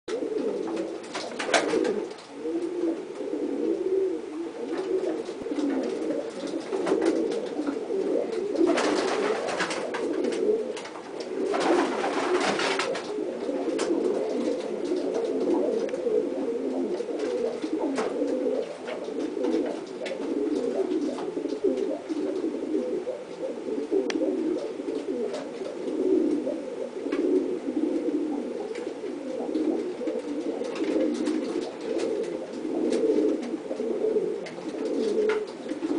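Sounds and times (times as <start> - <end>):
pigeons cooing: 0.1 - 35.9.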